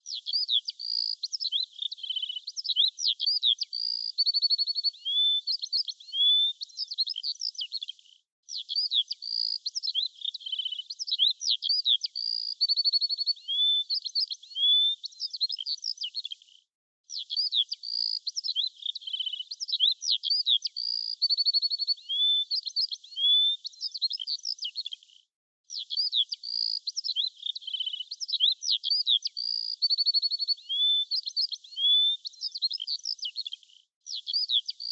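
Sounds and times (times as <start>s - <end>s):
songbird singing: 0.0s - 7.9s, 8.5s - 16.4s, 17.1s - 25.0s, 25.7s - 34.9s.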